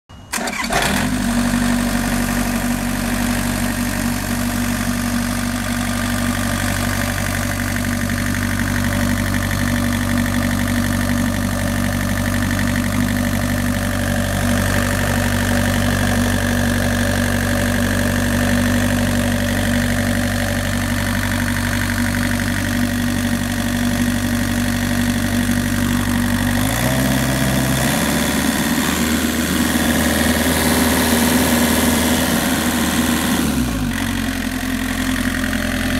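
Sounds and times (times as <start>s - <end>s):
diesel engine idling: 0.3s - 35.9s.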